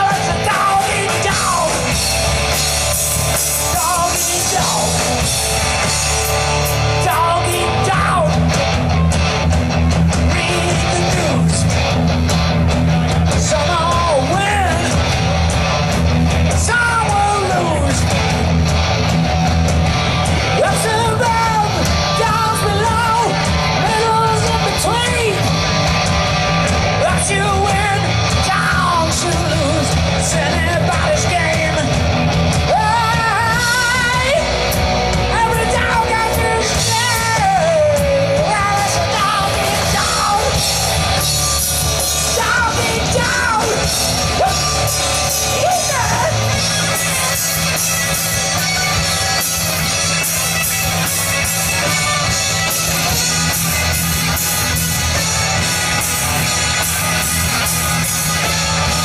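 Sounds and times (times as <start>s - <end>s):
singer belting: 0.0s - 9.1s, 9.9s - 12.1s, 13.2s - 15.4s, 20.1s - 25.7s, 26.5s - 59.0s
live rock band playing: 0.0s - 59.0s.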